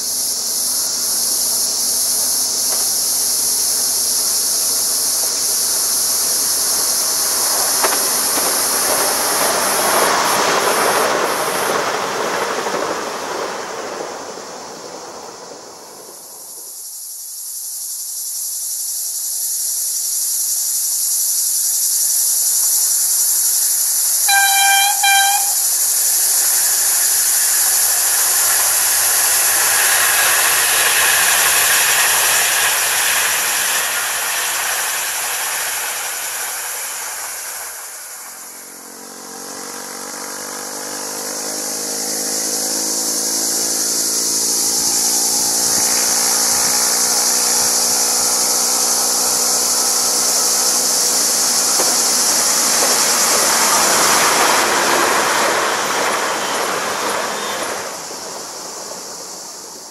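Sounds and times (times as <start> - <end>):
distant electric train passing: 0.0 - 59.9
electric train hum: 0.0 - 59.9
high hiss: 0.0 - 59.9
train rolling noise: 0.0 - 59.9.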